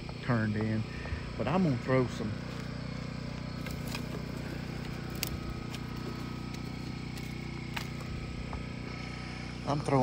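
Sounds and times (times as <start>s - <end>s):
portable generator running: 0.0s - 10.0s.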